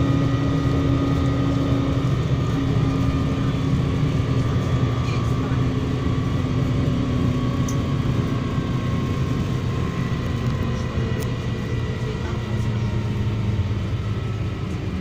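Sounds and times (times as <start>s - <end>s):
bus engine drone: 0.0s - 15.0s
faint drivetrain whine: 0.0s - 15.0s.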